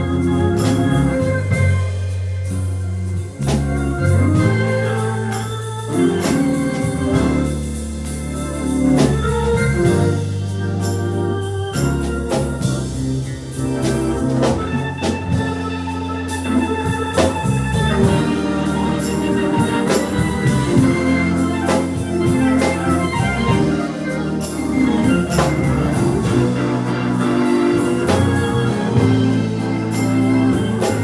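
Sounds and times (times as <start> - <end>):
drum kit steady beat: 0.0 - 31.0
sustained organ chords: 0.0 - 31.0.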